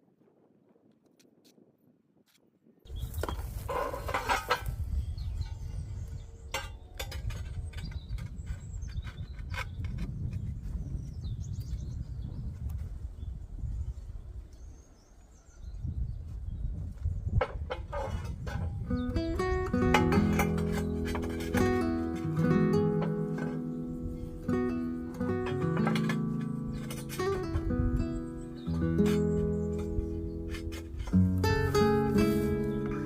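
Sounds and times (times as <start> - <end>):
wind buffeting microphone: 0.0 - 33.0
birds chirping faintly: 2.6 - 33.0.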